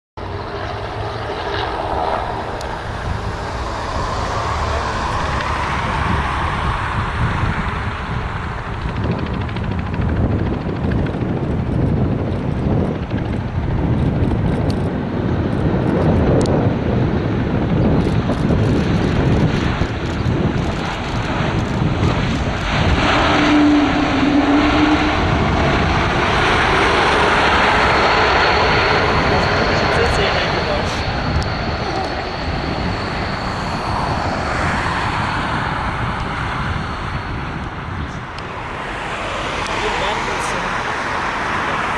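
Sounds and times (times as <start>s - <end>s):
jet engine rumble and hiss: 0.2s - 41.9s.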